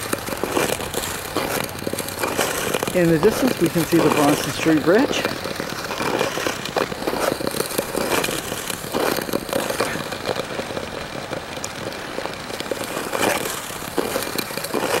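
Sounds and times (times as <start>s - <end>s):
ice skates gliding and scraping: 0.0s - 15.0s.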